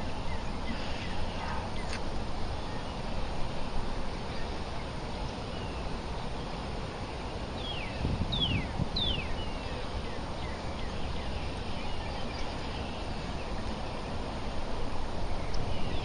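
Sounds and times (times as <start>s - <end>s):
low outdoor background rush: 0.0s - 16.0s.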